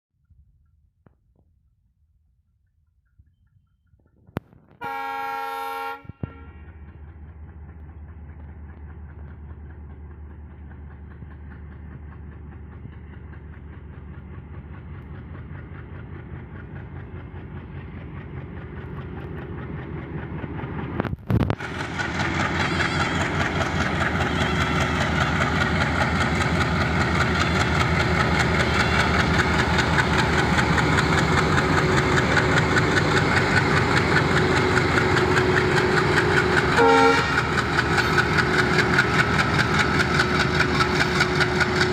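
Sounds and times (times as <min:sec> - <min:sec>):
diesel locomotive hauling freight train: 0:00.2 - 0:41.9.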